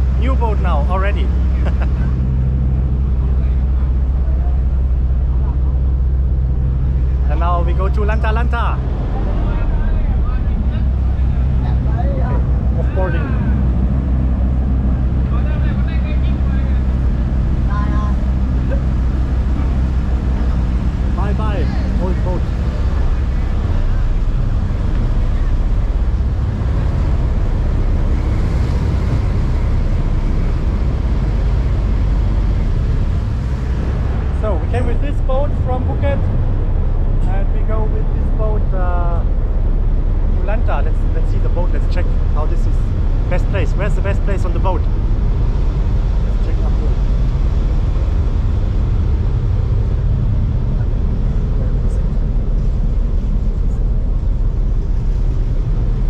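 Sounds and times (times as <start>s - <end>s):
boat engine rumble: 0.0s - 56.0s
rushing water: 0.0s - 56.0s
wind buffeting microphone: 0.0s - 56.0s.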